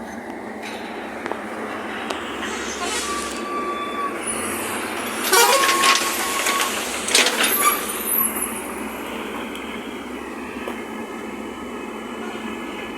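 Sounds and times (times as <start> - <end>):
heavy construction machinery running: 0.0 - 12.9.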